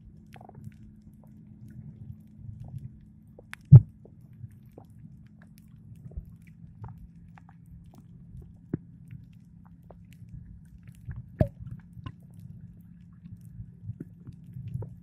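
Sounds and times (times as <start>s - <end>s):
small clicks and crackles: 0.0s - 15.0s
steady low underwater hum: 0.0s - 15.0s.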